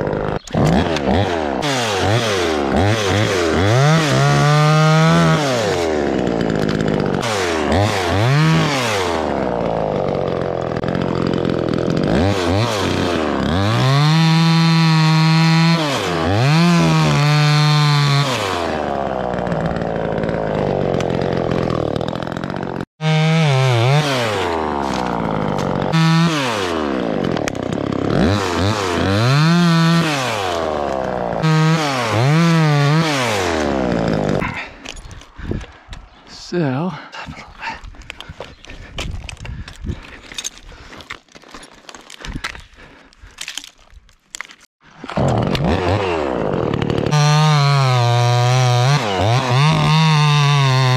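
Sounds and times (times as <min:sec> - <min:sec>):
chainsaw revving and cutting: 0:00.0 - 0:35.5, 0:44.9 - 0:50.9.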